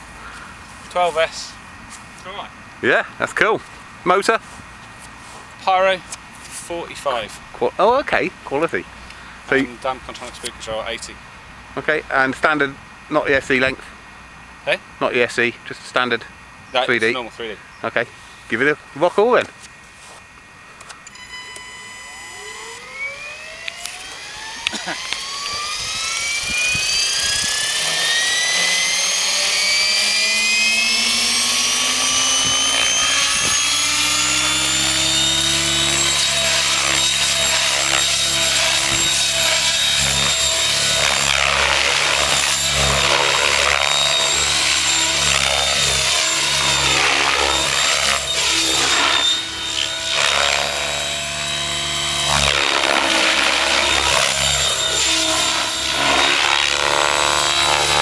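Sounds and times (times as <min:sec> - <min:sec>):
electric helicopter motor whine: 0:00.0 - 0:58.0
helicopter blade noise: 0:00.0 - 0:58.0.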